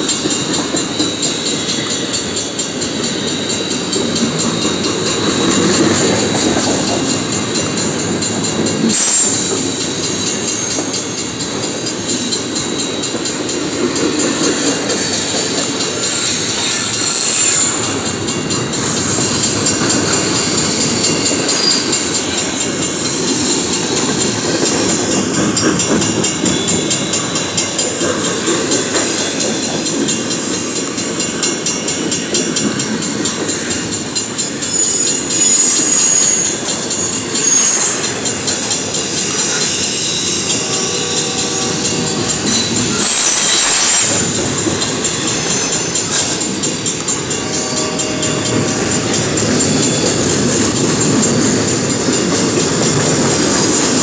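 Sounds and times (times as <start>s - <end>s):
high-pitched wheel squeals: 0.0s - 54.0s
steel wheels rumbling on rail: 0.0s - 54.0s.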